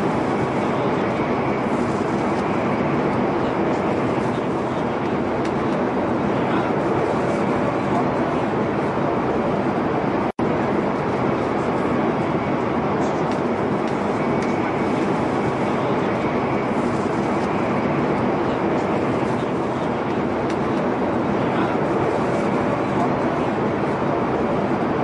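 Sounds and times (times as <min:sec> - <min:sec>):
train rumbling at speed: 0:00.0 - 0:25.0.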